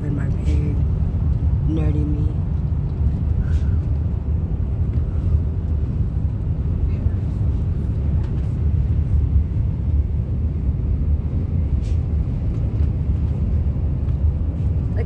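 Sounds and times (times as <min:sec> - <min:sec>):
road and wind noise inside car: 0:00.0 - 0:15.0.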